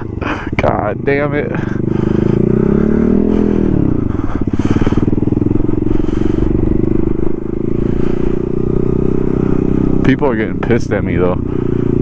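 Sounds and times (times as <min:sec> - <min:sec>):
motorcycle engine under throttle: 0:00.0 - 0:12.0.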